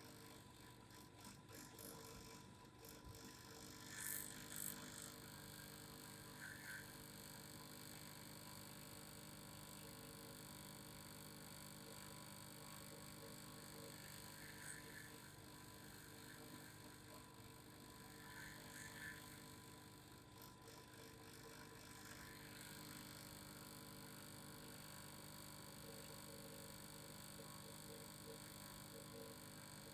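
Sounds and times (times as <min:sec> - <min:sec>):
faint steady vibration hum: 0:00.0 - 0:29.9.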